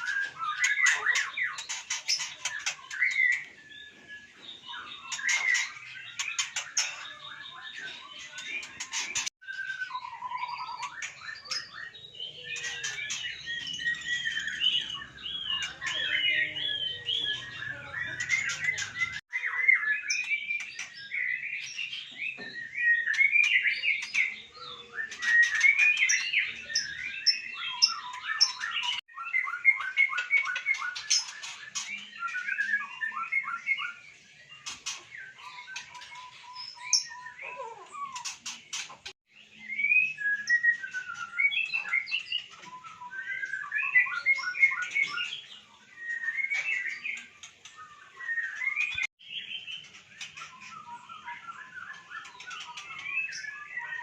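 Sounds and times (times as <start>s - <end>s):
birds singing and calling: 0.0s - 54.0s.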